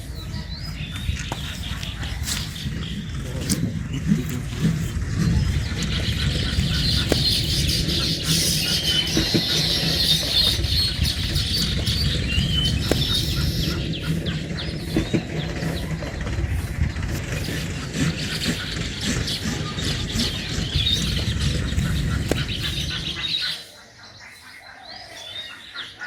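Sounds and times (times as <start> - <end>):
steady low rumble: 0.0 - 23.6
small birds chirping: 0.0 - 26.0.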